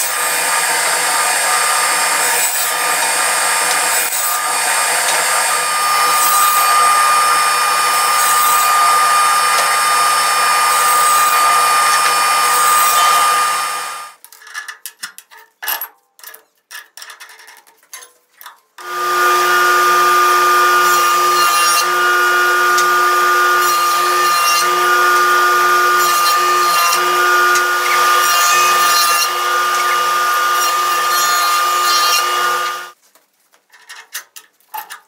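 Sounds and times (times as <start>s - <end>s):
table saw cutting wood: 0.0s - 14.2s, 18.8s - 33.0s.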